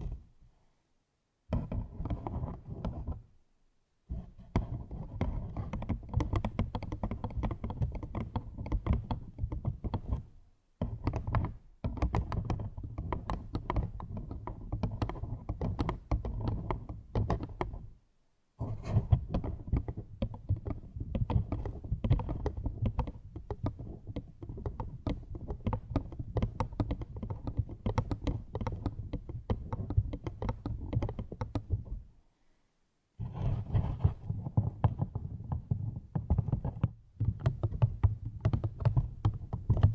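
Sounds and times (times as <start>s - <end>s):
rapid tapping and clicking: 4.6s - 17.8s, 18.9s - 32.0s, 33.8s - 39.9s.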